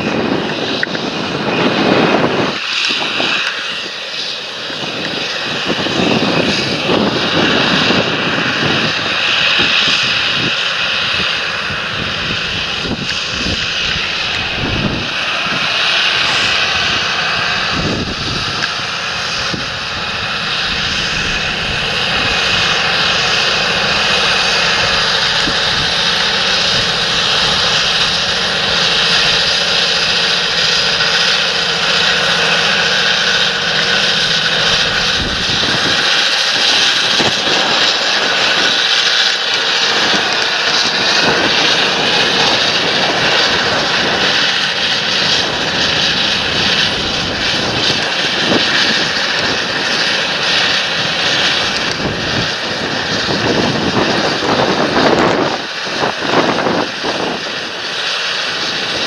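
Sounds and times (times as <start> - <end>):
broad mechanical noise: 0.0 - 59.0
tractor diesel engine running: 0.0 - 59.0.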